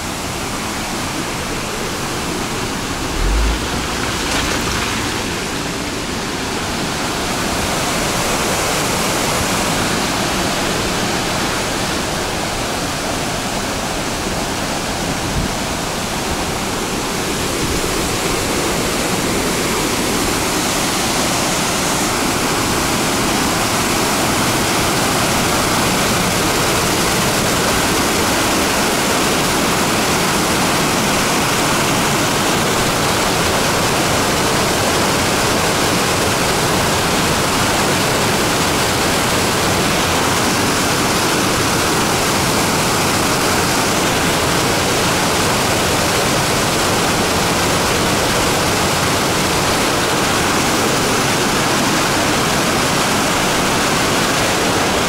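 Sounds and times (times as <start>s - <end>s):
waterfall rushing over rocks: 0.3s - 12.7s, 18.6s - 55.0s.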